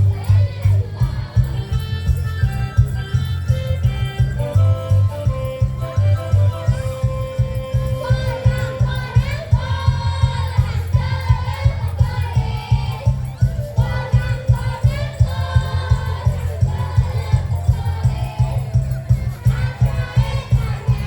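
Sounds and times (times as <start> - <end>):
several voices singing a carol: 0.0 - 2.3, 5.3 - 21.0
rhythmic backing music: 0.0 - 21.0.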